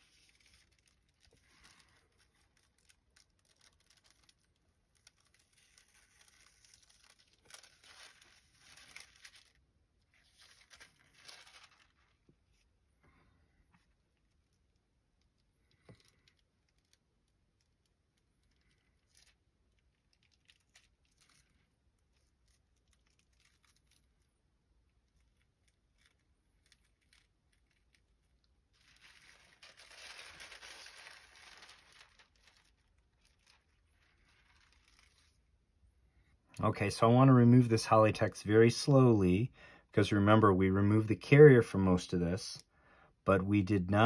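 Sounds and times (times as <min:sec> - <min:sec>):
soft sheet crinkling: 0:00.0 - 0:44.0.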